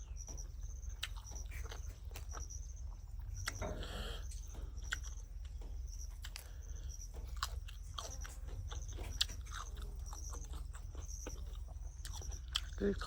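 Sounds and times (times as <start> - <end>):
insects chirping: 0.0 - 13.0
person chewing and crunching food: 0.4 - 13.0.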